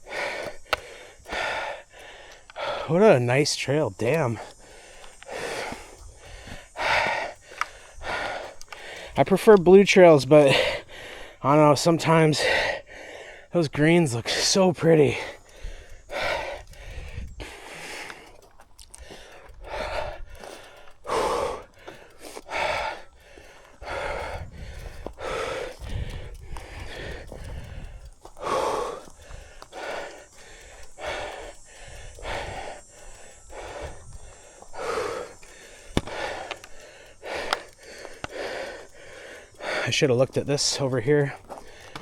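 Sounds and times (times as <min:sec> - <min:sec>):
man breathing hard: 0:00.0 - 0:42.0.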